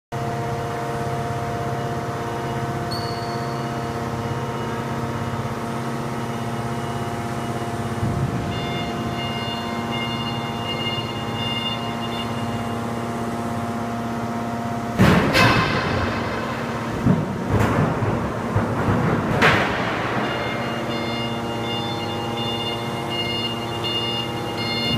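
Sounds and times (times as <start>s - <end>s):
hydraulic pump electric hum: 0.2s - 24.9s.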